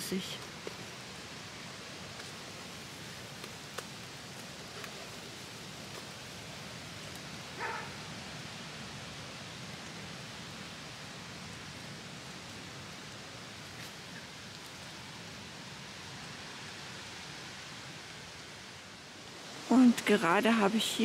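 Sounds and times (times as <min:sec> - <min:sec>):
storm wind rushing through woods: 0:00.0 - 0:21.0.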